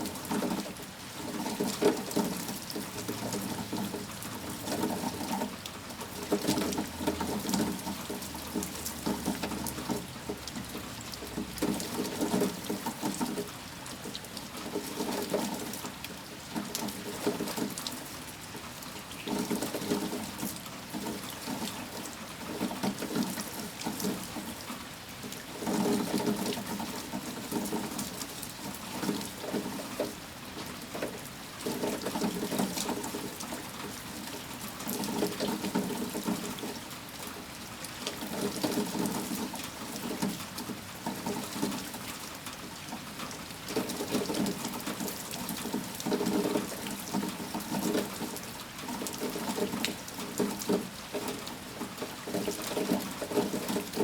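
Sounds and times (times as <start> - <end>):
heavy rain splashing: 0.0 - 54.0.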